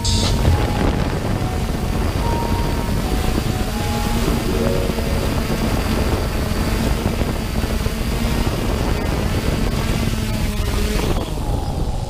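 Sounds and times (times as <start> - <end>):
drone motors and propellers: 0.0 - 12.0.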